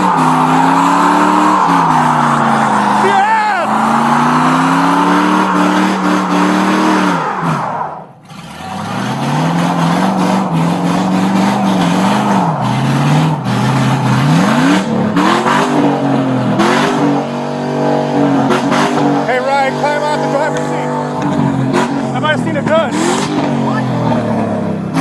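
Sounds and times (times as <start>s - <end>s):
pickup truck engine revving: 0.0s - 25.0s.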